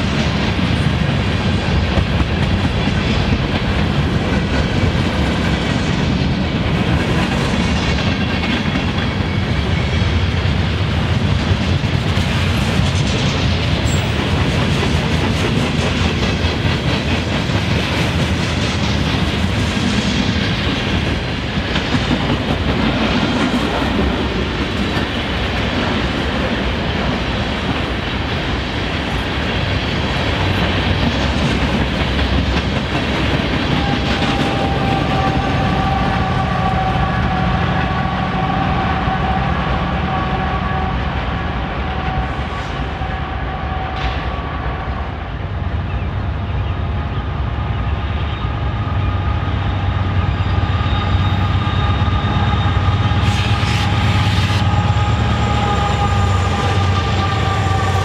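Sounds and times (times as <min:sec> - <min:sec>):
freight train wheels clattering: 0:00.0 - 0:44.7, 0:48.3 - 0:58.0.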